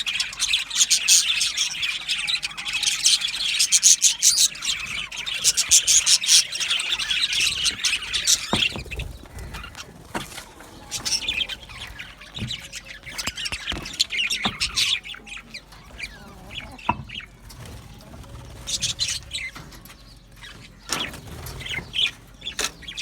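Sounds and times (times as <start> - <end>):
budgerigars chattering and warbling: 0.0 - 23.0.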